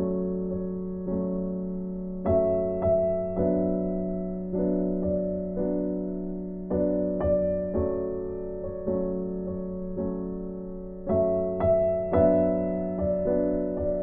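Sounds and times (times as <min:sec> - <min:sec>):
slow soft piano music: 0:00.0 - 0:14.0.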